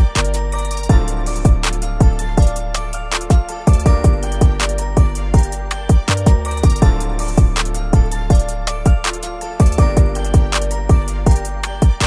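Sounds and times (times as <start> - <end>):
kick drum: 0.0 - 0.2, 0.9 - 2.6, 3.3 - 9.0, 9.6 - 12.0
bass: 0.0 - 12.0
plucked instrument: 0.0 - 12.0.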